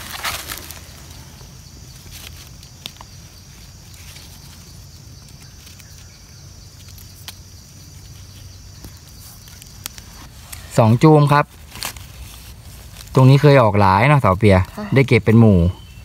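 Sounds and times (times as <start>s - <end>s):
hands rustling in dry leaves: 0.0s - 14.6s
quiet forest background: 0.0s - 16.0s.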